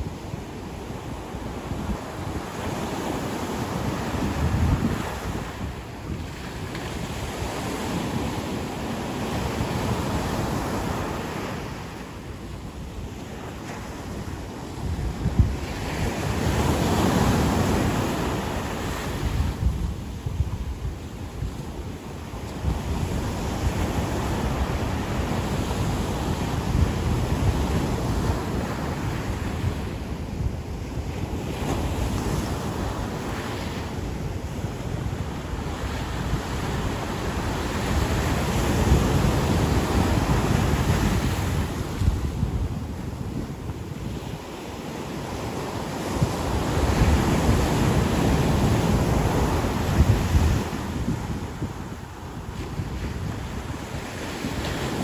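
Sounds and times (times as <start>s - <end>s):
wind buffeting microphone: 0.0s - 44.6s, 45.2s - 55.0s
ocean surf washing on beach: 0.0s - 55.0s.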